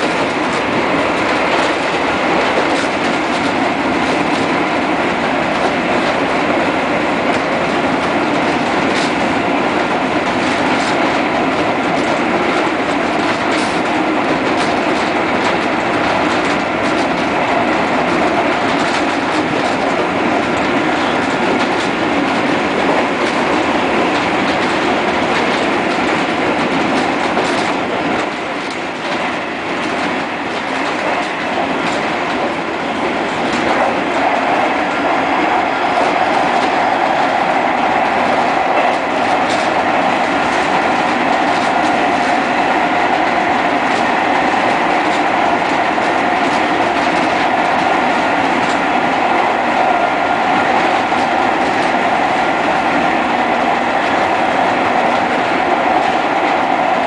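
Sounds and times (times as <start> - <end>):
rail joint clicks: 0.0 - 57.0
train wheels rumbling on rail: 0.0 - 57.0.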